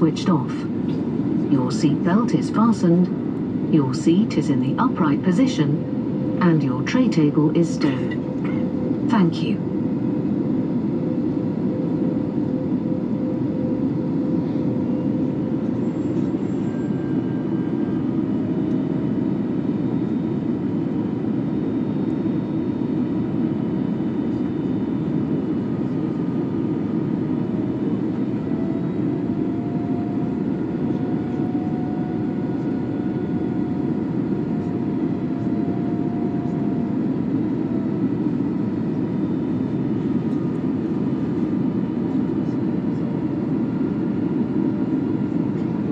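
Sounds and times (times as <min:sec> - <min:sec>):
aircraft engine hum: 0:00.0 - 0:45.9
airflow rush in aircraft cabin: 0:00.0 - 0:45.9.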